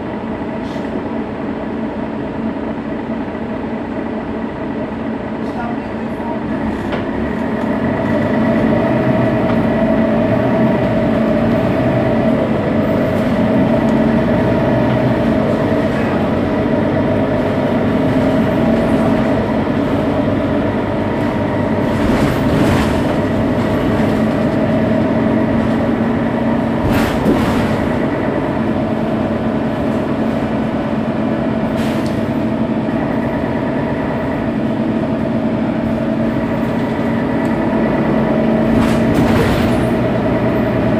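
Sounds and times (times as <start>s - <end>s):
diesel bus engine idling: 0.0s - 40.9s.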